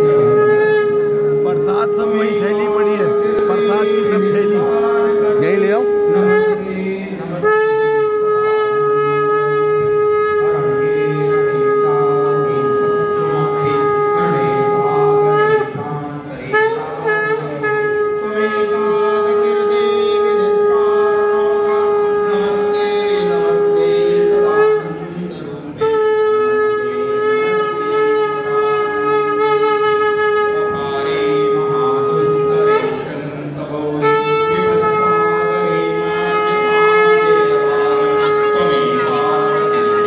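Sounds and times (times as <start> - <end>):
conch shell blown: 0.0 - 40.0.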